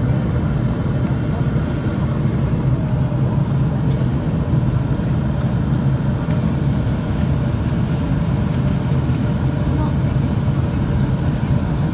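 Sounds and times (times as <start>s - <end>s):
jet engine rumble in cabin: 0.0s - 11.9s.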